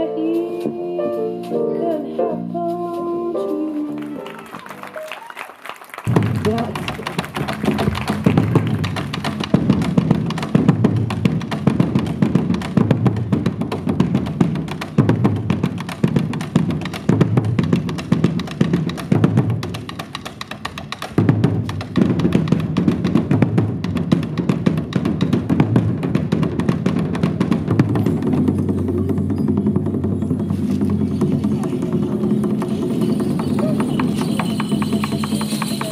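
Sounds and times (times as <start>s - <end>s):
percussion ensemble drumming: 4.3s - 35.9s
deep drum beats: 6.1s - 35.9s.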